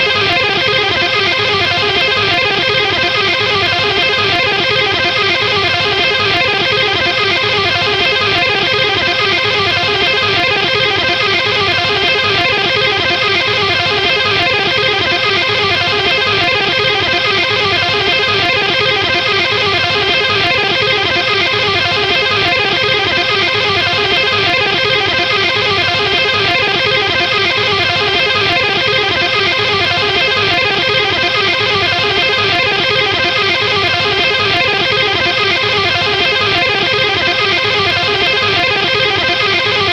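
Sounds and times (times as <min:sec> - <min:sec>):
rock chord strummed on guitar: 0:00.0 - 0:39.9.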